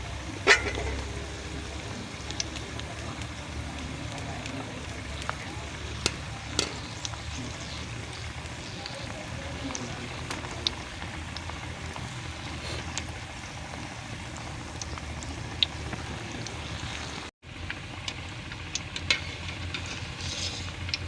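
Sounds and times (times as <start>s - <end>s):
food sizzling in hot fat: 0.0s - 21.0s.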